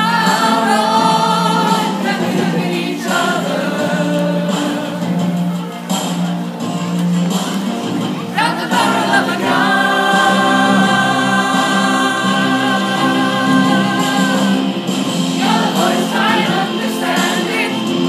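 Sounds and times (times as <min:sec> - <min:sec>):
group singing in unison: 0:00.0 - 0:05.6, 0:08.3 - 0:18.0.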